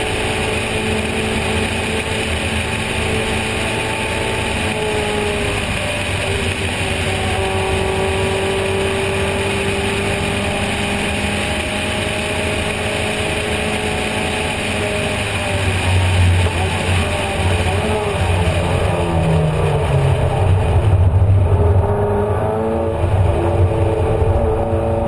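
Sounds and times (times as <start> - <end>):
racing car engine at high revs: 0.0 - 25.0.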